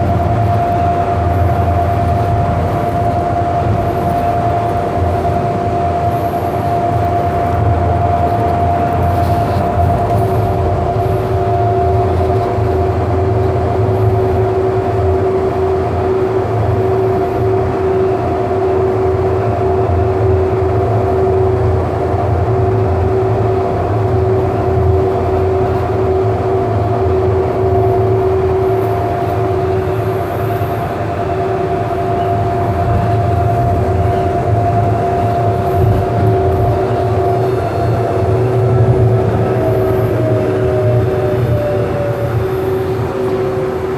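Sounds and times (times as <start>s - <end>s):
light rail car low rumble: 0.0s - 43.9s
two-note motor whine: 0.0s - 43.9s.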